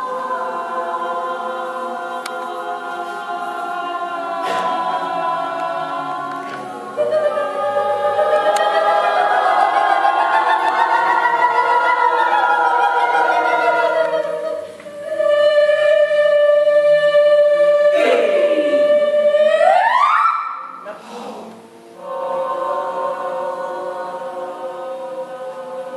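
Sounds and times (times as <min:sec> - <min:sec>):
choir singing: 0:00.0 - 0:25.9.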